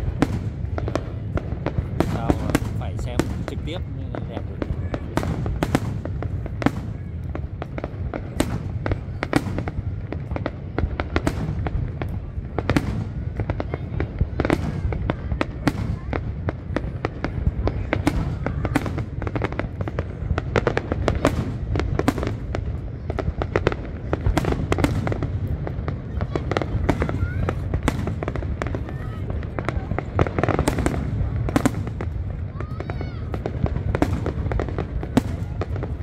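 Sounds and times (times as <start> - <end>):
fireworks bursting: 0.0 - 36.0.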